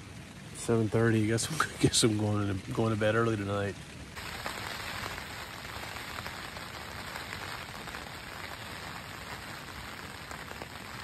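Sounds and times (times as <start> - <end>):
rain on a tent: 0.0 - 11.0.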